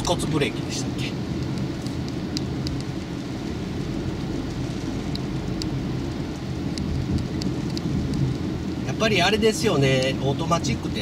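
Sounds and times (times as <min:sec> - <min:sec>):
tyre and road noise: 0:00.0 - 0:11.0
raindrops ticking on car: 0:01.2 - 0:11.0.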